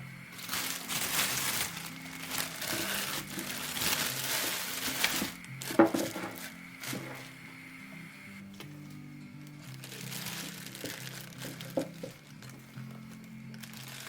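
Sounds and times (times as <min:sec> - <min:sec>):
quiet background music: 0:00.0 - 0:14.0
hands handling food rustling: 0:00.4 - 0:07.3, 0:09.6 - 0:14.0.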